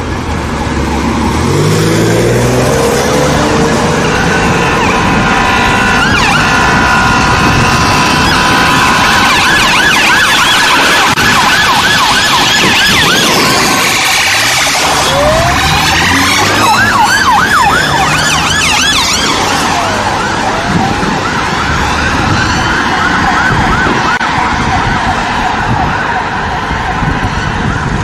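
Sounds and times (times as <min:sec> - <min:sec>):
emergency sirens wailing: 0:00.0 - 0:28.0
traffic rumble: 0:00.0 - 0:28.0.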